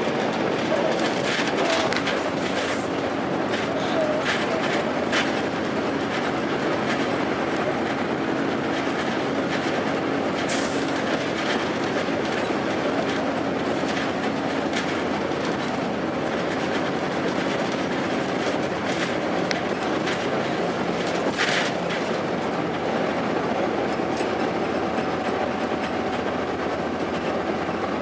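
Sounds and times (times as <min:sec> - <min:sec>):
body rattles and clicks: 0:00.0 - 0:28.0
bus diesel engine drone: 0:00.0 - 0:28.0
road noise: 0:00.0 - 0:28.0.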